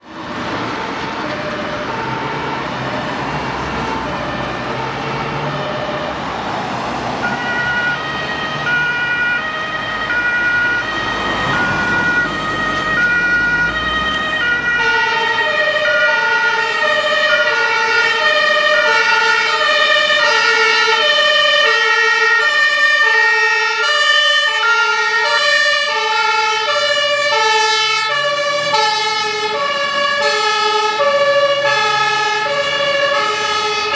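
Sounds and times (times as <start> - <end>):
two-tone fire sirens: 0.0 - 33.9.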